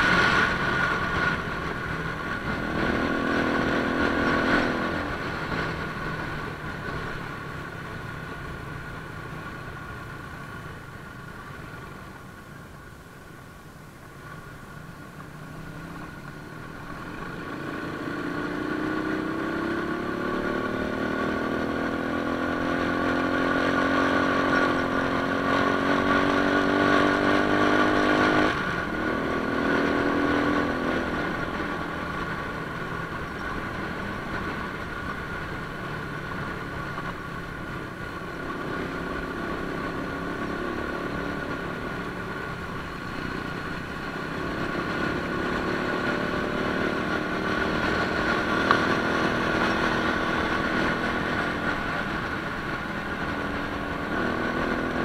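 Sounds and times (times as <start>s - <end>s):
motorcycle engine revving: 0.0s - 9.0s, 15.2s - 55.0s.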